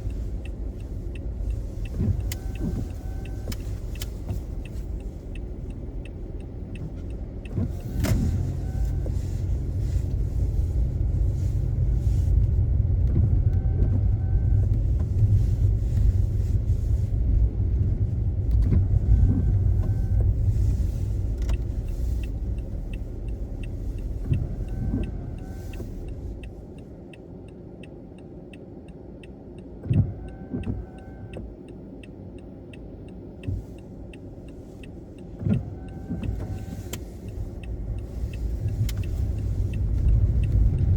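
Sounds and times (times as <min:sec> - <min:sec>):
car road rumble: 0:00.0 - 0:40.9
windscreen wipers sweeping: 0:00.0 - 0:40.9.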